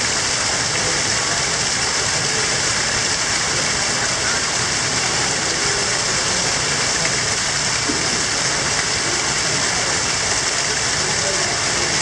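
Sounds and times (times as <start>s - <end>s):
waterfall rushing into pool: 0.0s - 12.0s.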